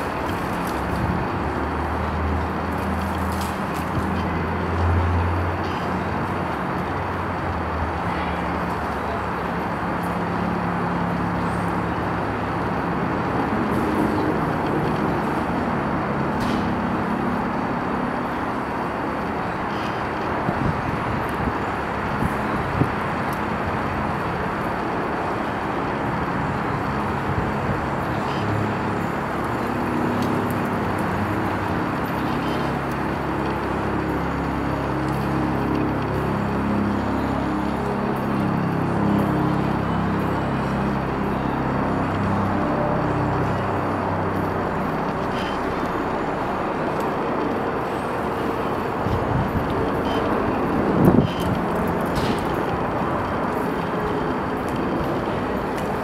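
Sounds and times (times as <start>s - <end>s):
city street traffic: 0.0s - 56.0s
low vehicle engine hum: 0.0s - 56.0s.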